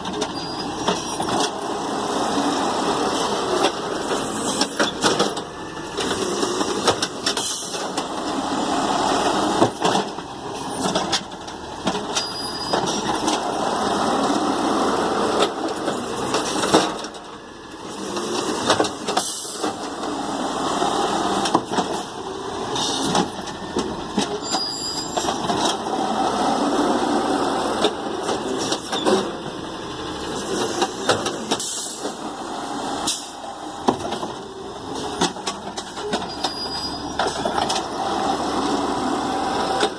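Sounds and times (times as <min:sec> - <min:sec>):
garbage truck engine running: 0:00.0 - 0:39.9
trash carts banging and clattering: 0:00.0 - 0:39.9.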